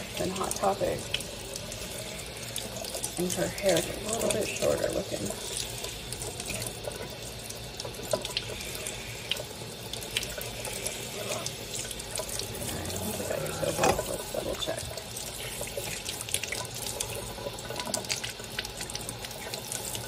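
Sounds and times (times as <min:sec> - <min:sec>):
faucet water splashing: 0:00.0 - 0:20.0.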